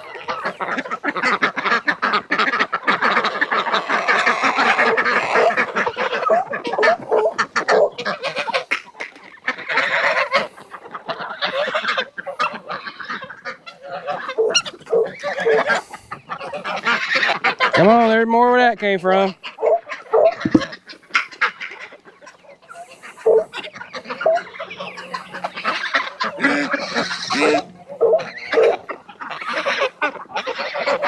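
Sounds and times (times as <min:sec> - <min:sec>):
poultry calling: 0:00.0 - 0:18.0, 0:19.1 - 0:31.0.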